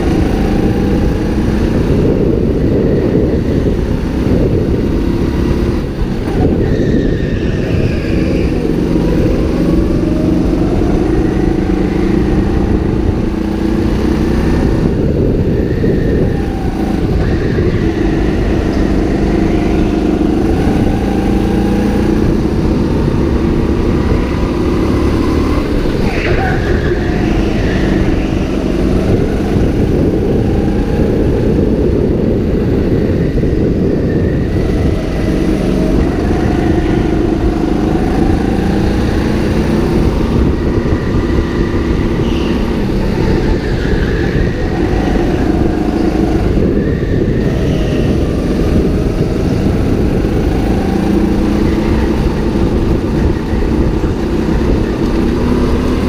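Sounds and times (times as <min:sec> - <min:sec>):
go-kart engine racing: 0:00.0 - 0:56.0
other kart engines: 0:00.0 - 0:56.0.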